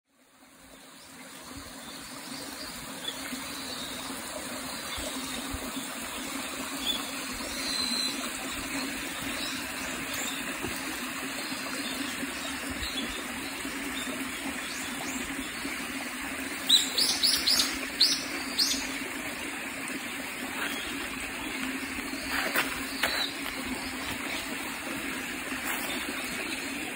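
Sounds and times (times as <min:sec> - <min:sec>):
mountain stream running: 0:00.1 - 0:26.9.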